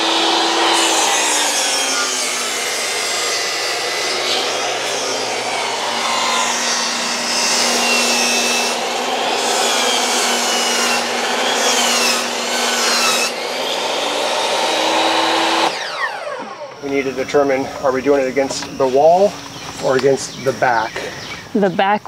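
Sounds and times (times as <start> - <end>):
table saw cutting wood: 0.0 - 21.2.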